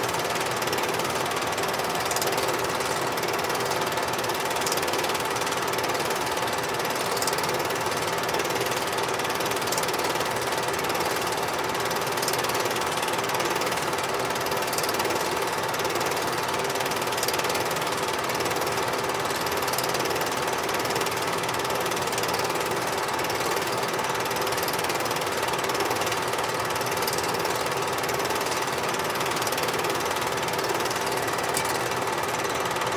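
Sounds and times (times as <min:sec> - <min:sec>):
film projector whirring and clattering: 0:00.0 - 0:32.9.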